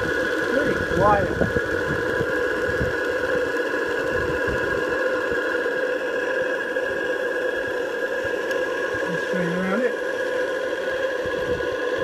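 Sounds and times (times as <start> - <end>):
model steam engine running: 0.0 - 12.0.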